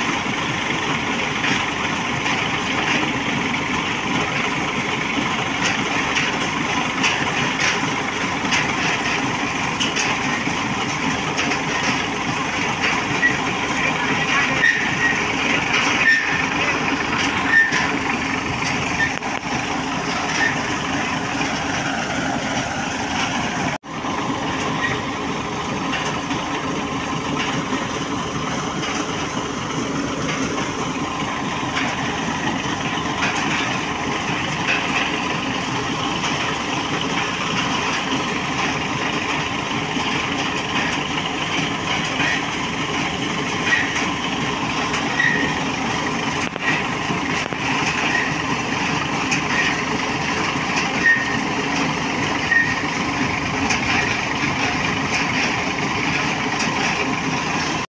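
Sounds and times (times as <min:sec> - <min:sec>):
tractor engine running: 0:00.0 - 0:57.9
water gushing and splashing: 0:00.0 - 0:57.9.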